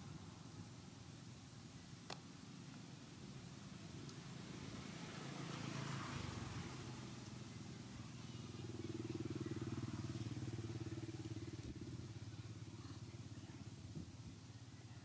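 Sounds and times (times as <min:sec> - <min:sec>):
distant vehicle engine humming: 0:02.4 - 0:15.0.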